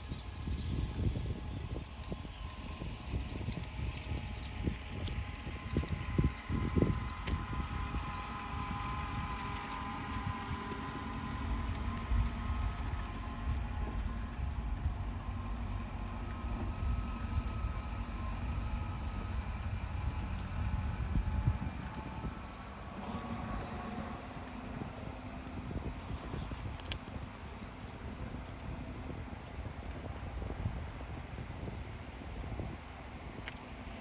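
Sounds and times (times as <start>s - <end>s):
faint steady hum: 0.0s - 34.0s
wind buffeting microphone: 0.0s - 34.0s.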